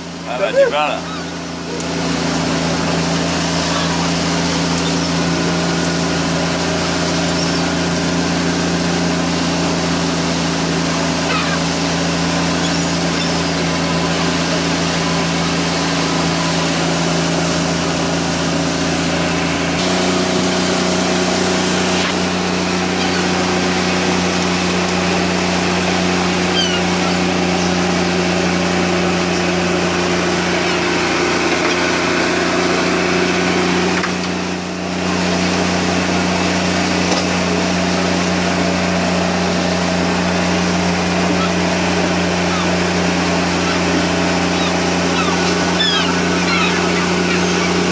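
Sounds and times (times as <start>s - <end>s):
boat engine running: 0.0s - 47.9s
water noise: 0.0s - 47.9s
wind: 0.0s - 47.9s.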